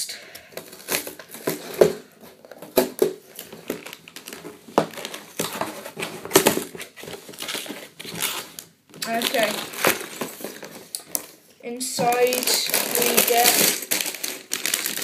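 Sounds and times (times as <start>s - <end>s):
cardboard box crinkling and rustling: 0.6s - 11.4s, 12.0s - 15.0s.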